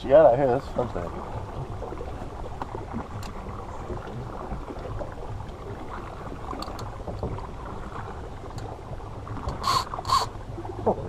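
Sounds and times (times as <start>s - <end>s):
low boat rumble: 0.0s - 11.0s
water noise: 0.0s - 11.0s.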